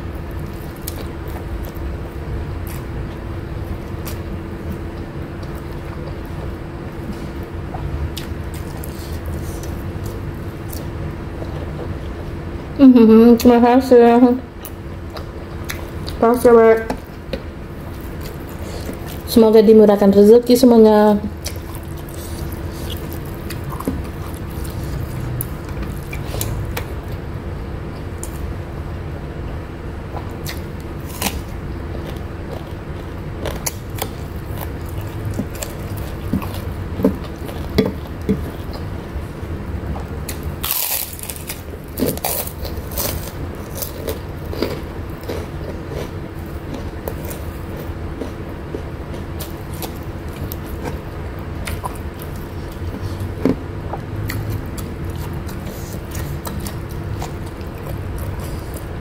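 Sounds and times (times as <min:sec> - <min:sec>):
low background hum: 0:00.0 - 0:59.0
chewing and crunching: 0:00.2 - 0:12.2, 0:17.1 - 0:19.4, 0:21.3 - 0:27.2, 0:30.0 - 0:59.0.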